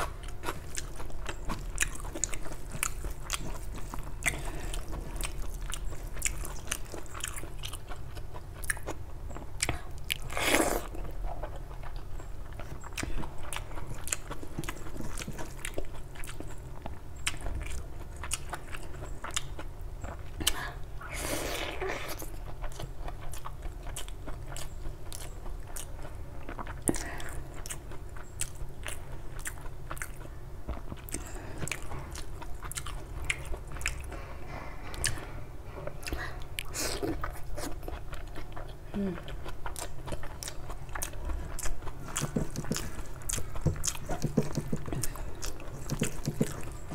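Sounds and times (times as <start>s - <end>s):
wet chewing and mouth clicks: 0.0s - 20.7s, 21.7s - 34.3s, 35.8s - 46.9s.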